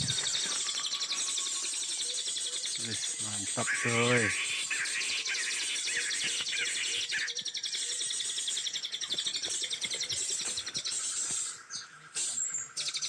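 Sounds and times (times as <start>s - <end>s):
birds chirping: 0.0s - 13.0s
rapid high bird trill: 0.0s - 13.0s.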